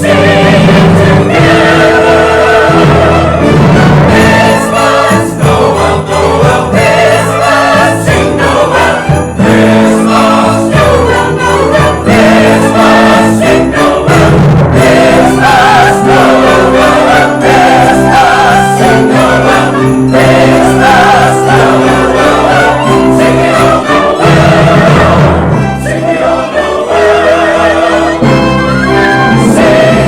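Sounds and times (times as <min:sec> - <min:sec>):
choir singing: 0:00.0 - 0:30.0
orchestra playing: 0:00.0 - 0:30.0.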